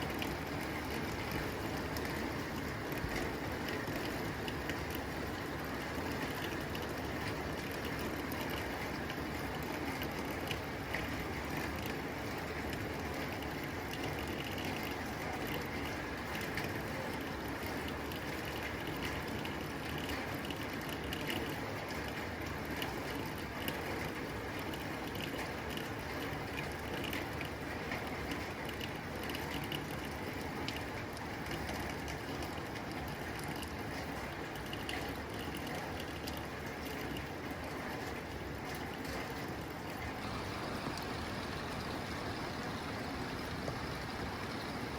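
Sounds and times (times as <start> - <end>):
rain on a tin roof: 0.0 - 44.9.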